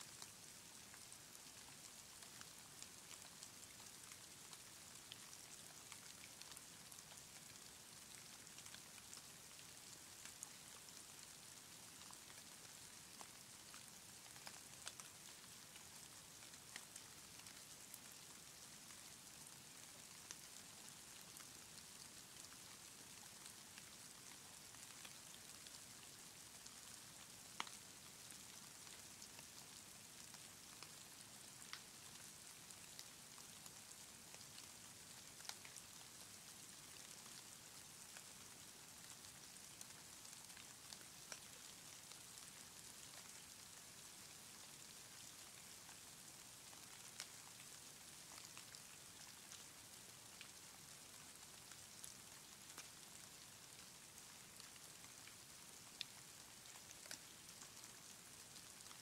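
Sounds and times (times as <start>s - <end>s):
faint hiss of falling snow: 0.0s - 59.0s.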